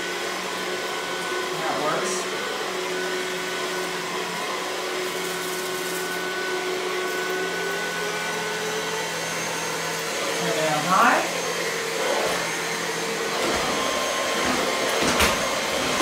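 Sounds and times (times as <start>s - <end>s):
vacuum cleaner motor hum: 0.0s - 16.0s.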